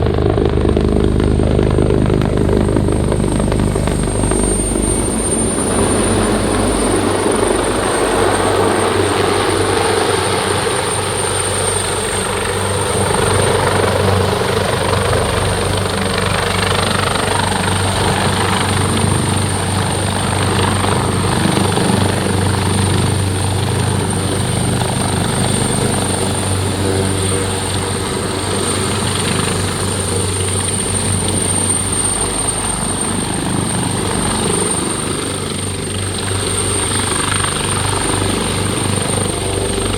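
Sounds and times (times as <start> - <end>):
helicopter engines and rotors droning: 0.0 - 39.9.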